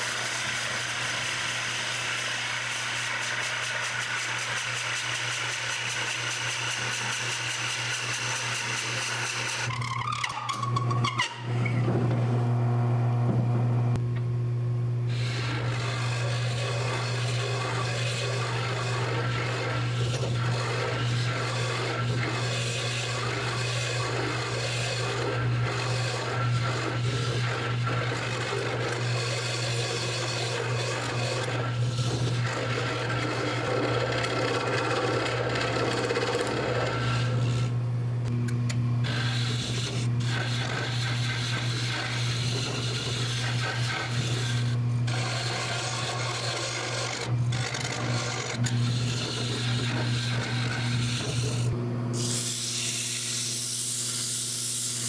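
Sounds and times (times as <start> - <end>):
turning tool cutting wood: 0.0 - 12.2, 15.1 - 37.8, 38.7 - 55.0
wood lathe humming: 0.0 - 13.2, 15.1 - 55.0.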